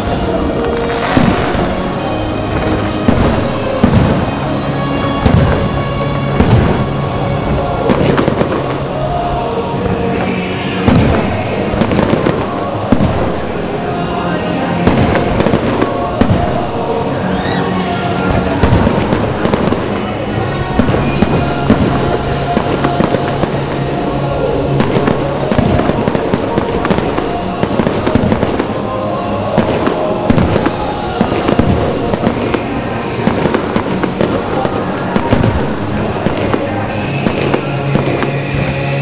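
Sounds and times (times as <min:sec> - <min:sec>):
music playing: 0:00.0 - 0:39.0.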